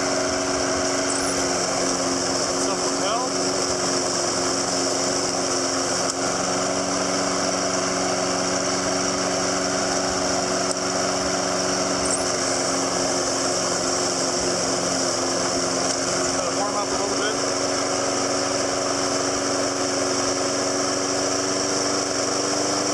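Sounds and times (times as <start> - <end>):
lawn mower engine running: 0.0 - 22.9.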